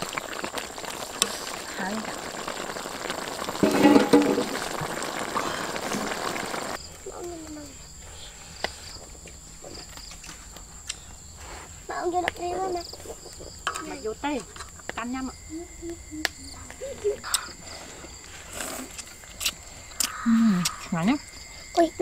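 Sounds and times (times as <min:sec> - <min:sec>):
crickets and insects droning: 0:00.0 - 0:22.0
soup boiling and bubbling: 0:00.0 - 0:22.0.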